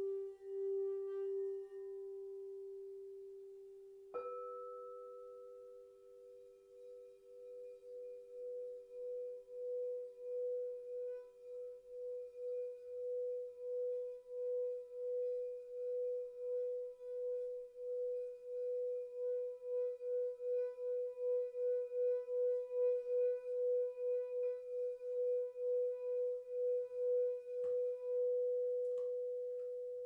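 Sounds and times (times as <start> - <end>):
crystal singing bowl tone: 0.0 - 30.0
low singing bowl tone: 0.0 - 30.0.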